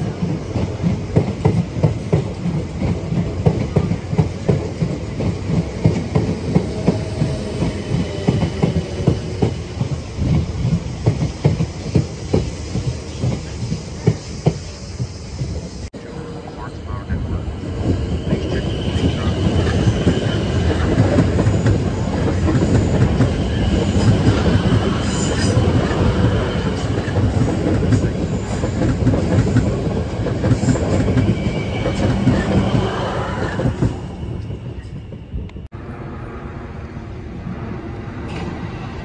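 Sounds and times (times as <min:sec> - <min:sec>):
train wheels clattering over rails: 0:00.0 - 0:15.8, 0:17.7 - 0:34.5.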